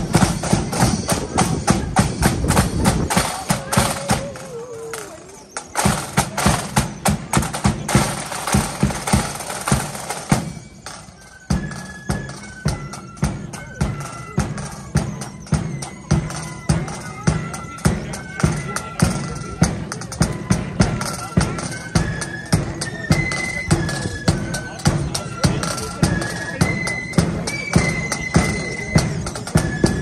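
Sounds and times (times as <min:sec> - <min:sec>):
marching drums: 0:00.0 - 0:30.0.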